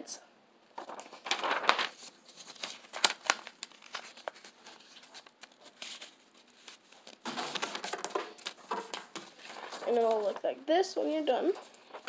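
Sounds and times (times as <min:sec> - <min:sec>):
paper crackles: 0:00.8 - 0:10.4, 0:11.4 - 0:12.0
paper crinkling: 0:00.8 - 0:10.4, 0:11.4 - 0:12.0.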